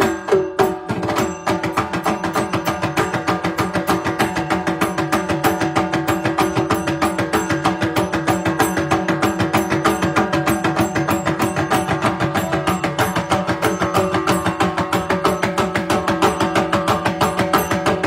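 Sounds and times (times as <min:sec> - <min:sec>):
fast drumming: 0:00.0 - 0:18.0.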